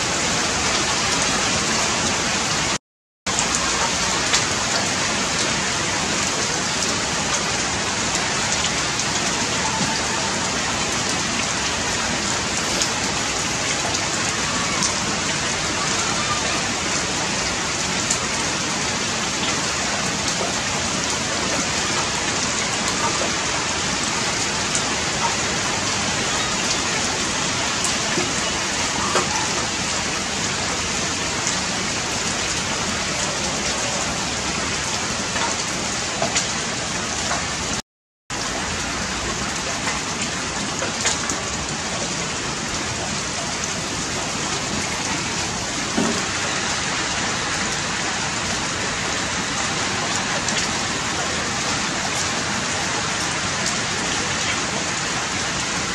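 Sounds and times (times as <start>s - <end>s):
steady hiss like rain: 0.0s - 37.8s, 38.4s - 55.9s.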